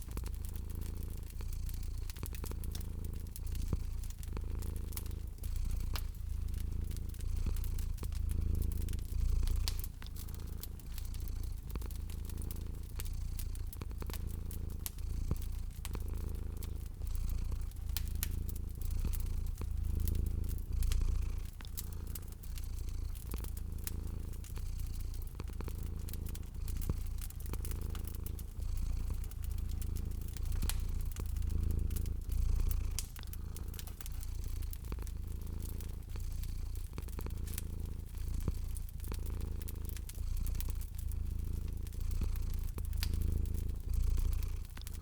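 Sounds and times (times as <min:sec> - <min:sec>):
cat purring: 0:00.0 - 0:45.0
wood fire crackling: 0:00.0 - 0:45.0.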